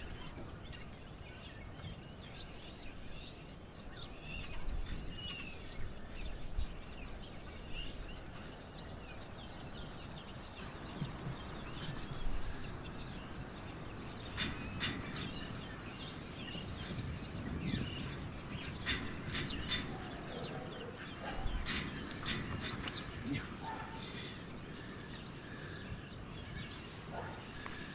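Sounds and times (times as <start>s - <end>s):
outdoor background noise: 0.0s - 27.9s
small birds chirping: 0.0s - 27.9s.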